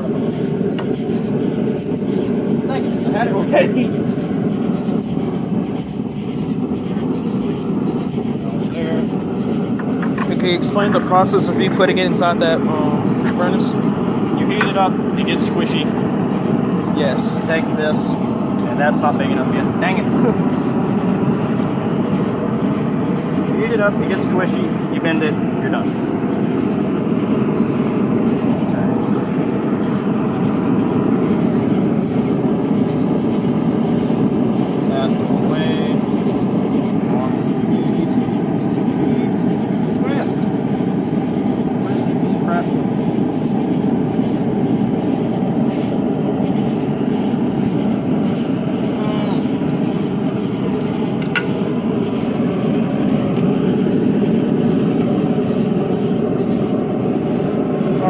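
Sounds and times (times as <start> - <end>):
forge burner flame rushing: 0.0 - 58.0.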